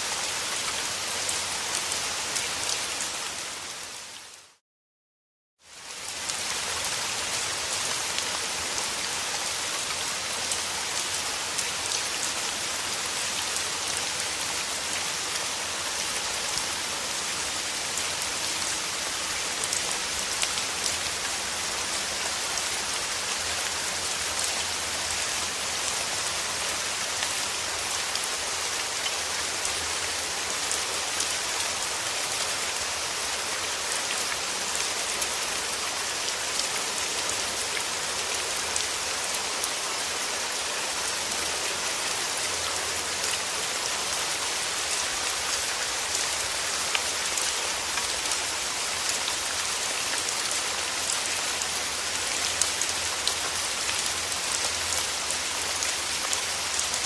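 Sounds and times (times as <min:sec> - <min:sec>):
steady rain falling: 0:00.0 - 0:04.6, 0:05.6 - 0:57.0.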